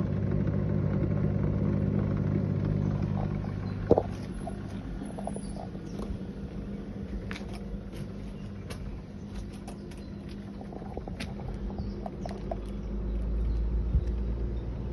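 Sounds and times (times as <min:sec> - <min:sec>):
dishwasher motor hum: 0:00.0 - 0:14.9.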